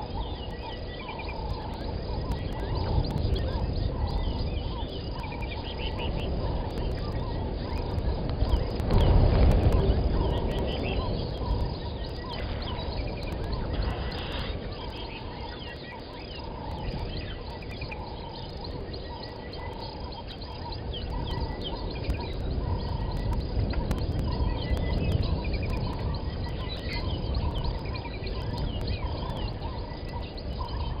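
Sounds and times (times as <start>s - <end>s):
birds chirping: 0.0s - 31.0s
steady low rumble: 0.0s - 31.0s.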